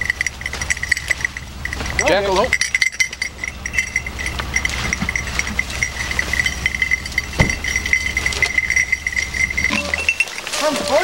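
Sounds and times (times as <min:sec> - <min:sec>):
high metallic jingling: 0:00.0 - 0:11.0
low engine hum: 0:00.0 - 0:11.0.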